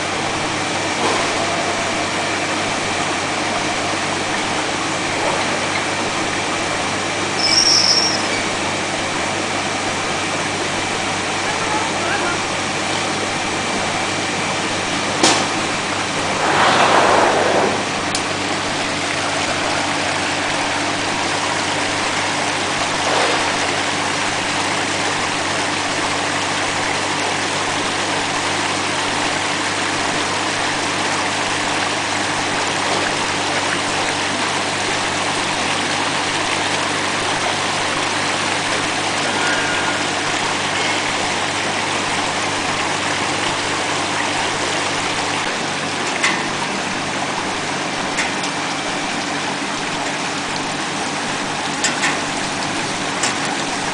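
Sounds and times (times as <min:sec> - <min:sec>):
churning water: 0:00.0 - 0:53.9.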